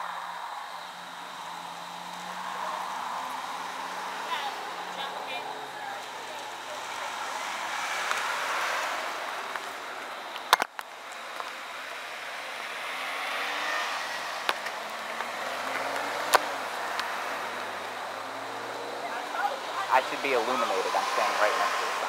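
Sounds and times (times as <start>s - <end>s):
cars passing on a road: 0.0s - 22.0s.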